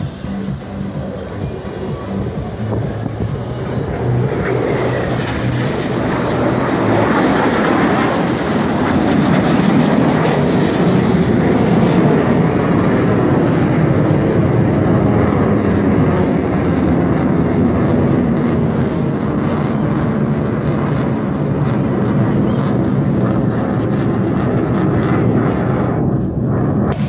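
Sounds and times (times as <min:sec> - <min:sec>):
jet aircraft engine: 0:00.0 - 0:27.0.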